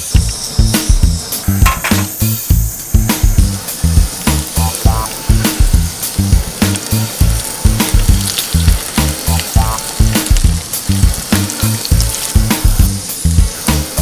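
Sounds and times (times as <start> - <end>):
burgers sizzling in oil: 0.0 - 14.0
funky music with bass and drums: 0.0 - 14.0.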